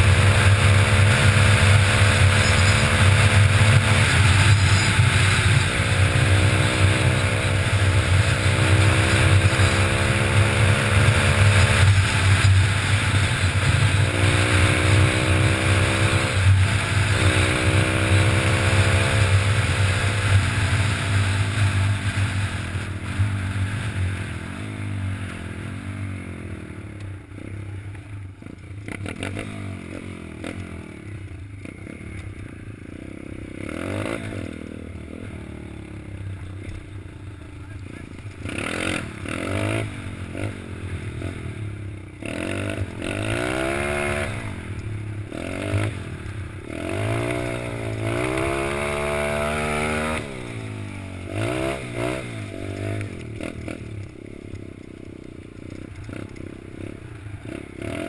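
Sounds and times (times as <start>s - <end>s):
pit bike engine revving: 0.0s - 25.8s, 28.5s - 32.0s, 33.0s - 36.6s, 37.6s - 54.4s, 55.4s - 58.0s.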